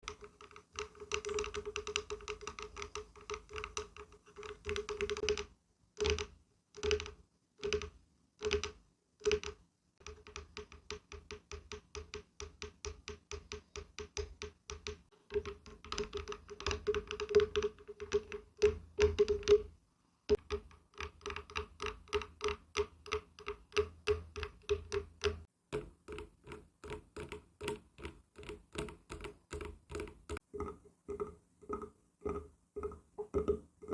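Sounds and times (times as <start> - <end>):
fingertips tapping on wood: 0.0 - 19.7, 20.3 - 33.9.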